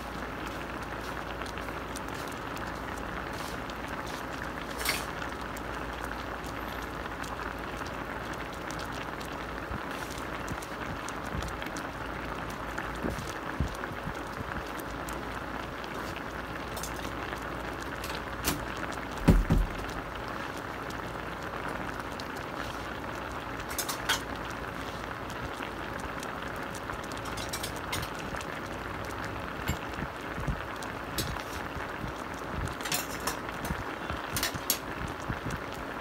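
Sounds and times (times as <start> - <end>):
sauce bubbling in a pot: 0.0 - 36.0.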